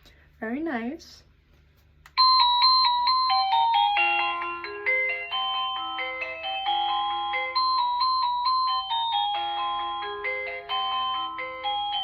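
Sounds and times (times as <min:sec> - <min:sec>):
electronic doorbell chime melody: 0:02.2 - 0:12.0.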